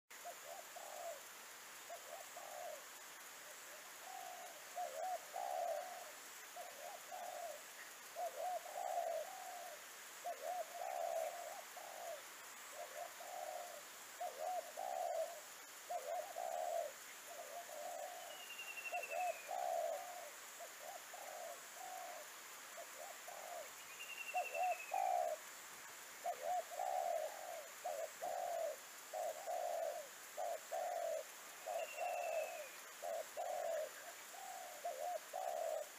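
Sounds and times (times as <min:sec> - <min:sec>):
dove cooing: 0:00.2 - 0:25.5, 0:26.2 - 0:35.9.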